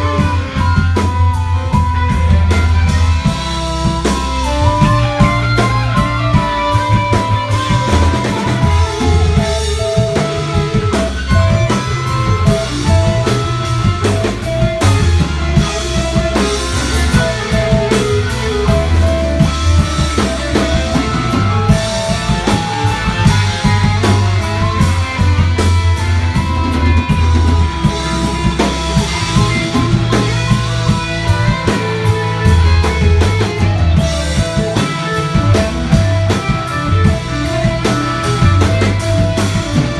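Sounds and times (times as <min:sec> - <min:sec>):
low bass line: 0:00.0 - 0:39.9
rock band playing: 0:00.0 - 0:39.9.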